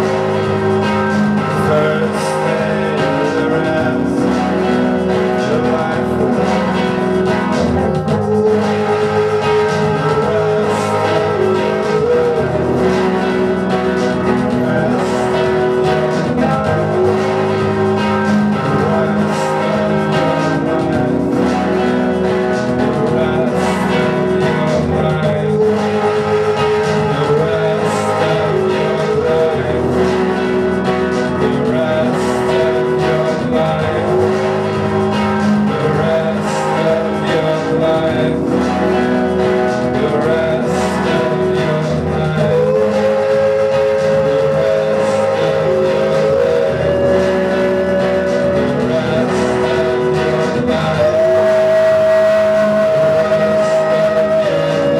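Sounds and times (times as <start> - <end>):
electric guitar and keyboard band music: 0.0 - 54.9.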